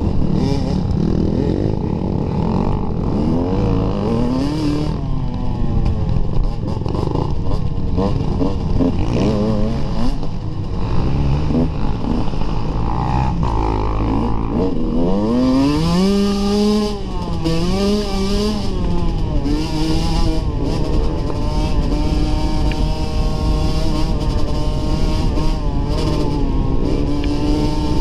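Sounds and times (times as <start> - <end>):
dirt bike engine revving: 0.0 - 5.1, 6.4 - 28.0.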